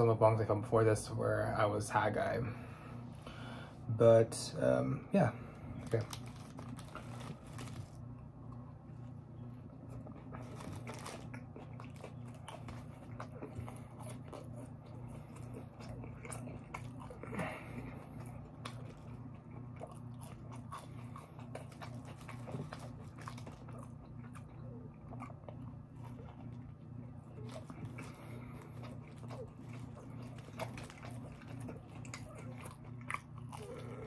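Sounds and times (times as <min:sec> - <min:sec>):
steady low hum: 0:00.0 - 0:34.0
person chewing with crunches: 0:05.3 - 0:34.0.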